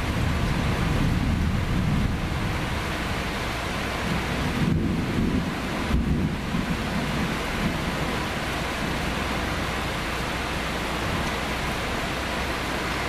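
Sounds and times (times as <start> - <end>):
steady rain: 0.0 - 13.0
thunder rumble: 0.0 - 13.0.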